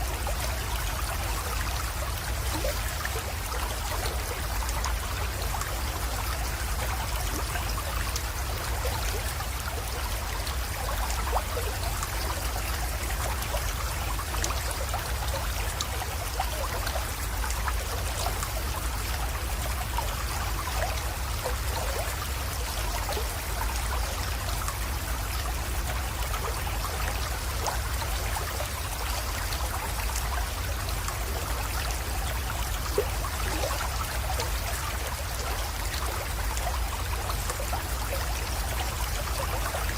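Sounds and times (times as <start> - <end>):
creek water trickling: 0.0 - 39.9
small water splashes: 0.0 - 39.9.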